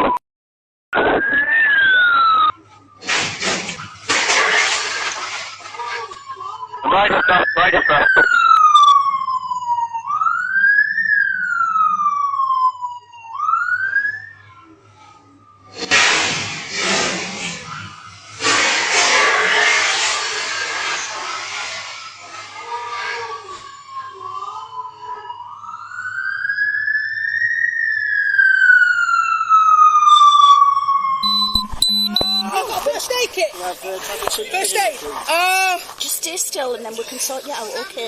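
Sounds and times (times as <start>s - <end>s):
police siren wailing: 1.0s - 2.7s, 4.2s - 16.1s, 17.6s - 35.1s.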